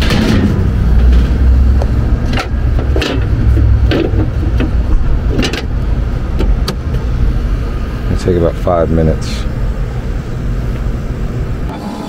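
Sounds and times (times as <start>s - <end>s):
air conditioner unit rumbling: 0.0s - 12.0s.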